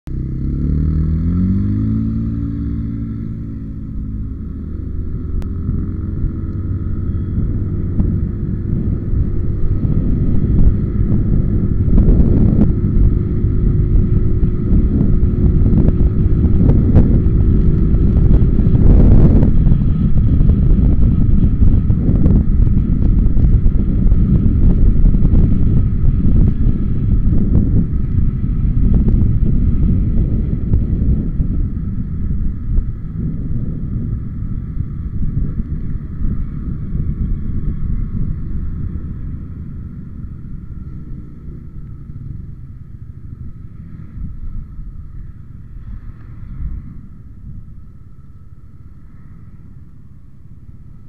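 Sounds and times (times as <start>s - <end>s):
atv engine accelerating: 0.1s - 51.0s
wind on microphone: 0.1s - 51.0s.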